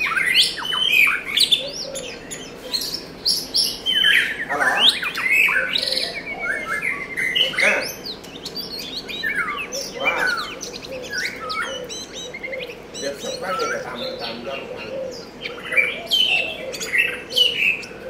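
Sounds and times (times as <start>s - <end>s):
bird rasping notes: 0.0s - 18.0s
songbird whistling song: 0.0s - 18.0s.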